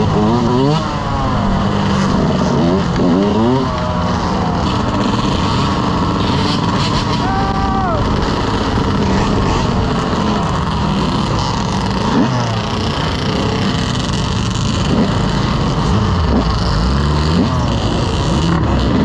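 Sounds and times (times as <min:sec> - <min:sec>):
loud rushing noise: 0:00.0 - 0:17.6
motorcycle engines revving: 0:00.0 - 0:19.0.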